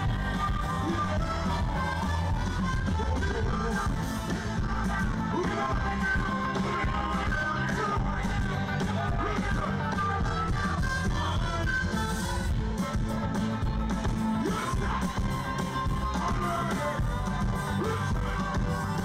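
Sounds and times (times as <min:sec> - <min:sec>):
electric bass and drums: 0:00.0 - 0:19.0
person singing: 0:00.0 - 0:19.0.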